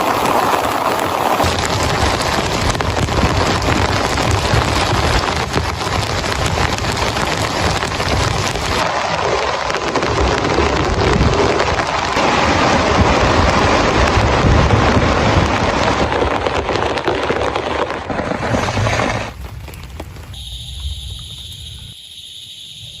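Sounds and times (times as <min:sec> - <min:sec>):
heavy rain falling: 0:00.0 - 0:20.3.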